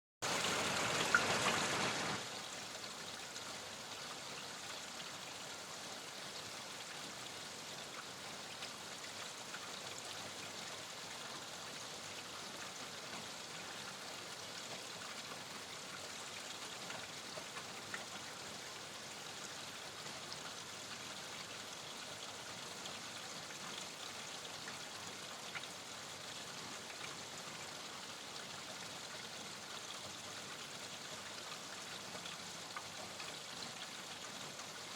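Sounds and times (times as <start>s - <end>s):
steady rain hiss: 0.2s - 34.9s.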